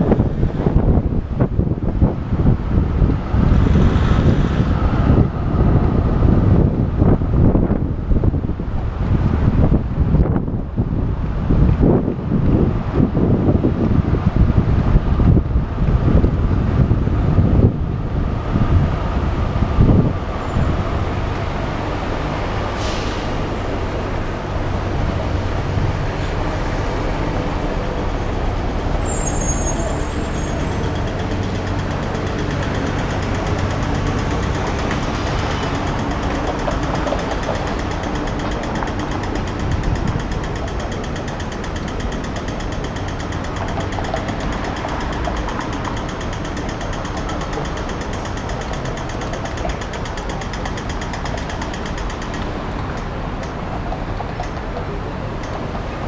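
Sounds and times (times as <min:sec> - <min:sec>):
idling and passing cars: 0:00.0 - 0:56.0
wind buffeting microphone: 0:00.0 - 0:56.0.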